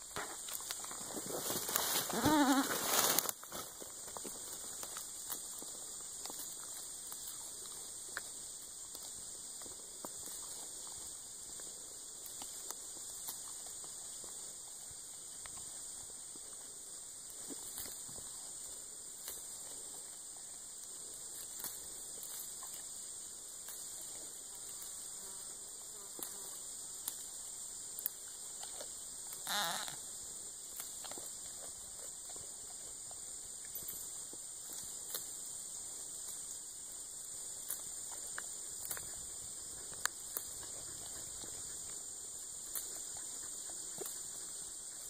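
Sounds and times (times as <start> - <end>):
goat chewing leaves and twigs: 0.0 - 45.0
high-pitched insect chorus: 0.0 - 45.0.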